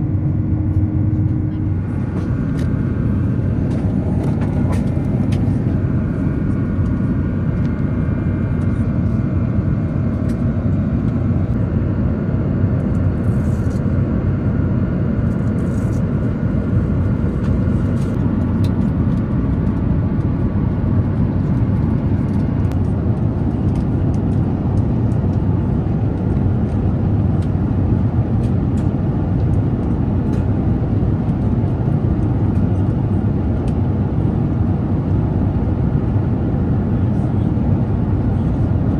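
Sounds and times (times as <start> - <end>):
airliner cabin engine rush: 0.0 - 38.9.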